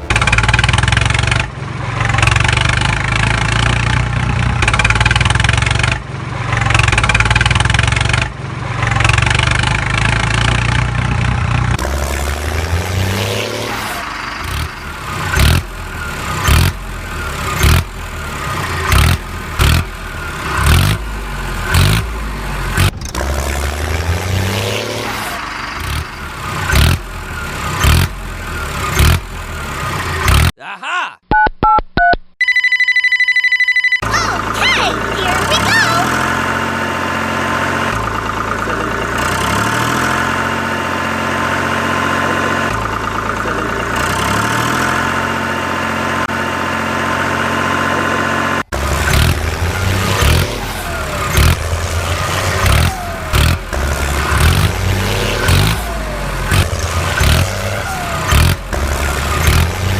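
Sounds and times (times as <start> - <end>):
engine sharp pulses and revs: 0.0 - 30.6, 34.0 - 59.9
heavy vehicle engine rumbling: 0.0 - 30.6, 34.0 - 59.9.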